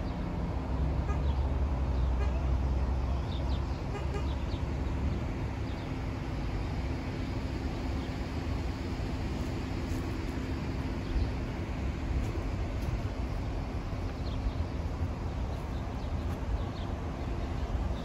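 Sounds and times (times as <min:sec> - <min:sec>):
distant traffic rumble: 0:00.0 - 0:18.0.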